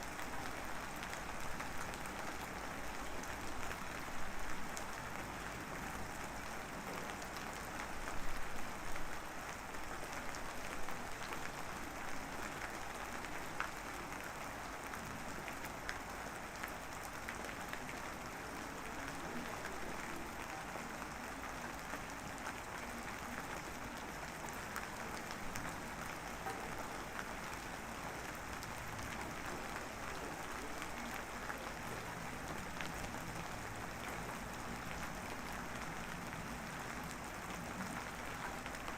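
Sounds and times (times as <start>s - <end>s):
light drizzle patter: 0.0s - 38.9s.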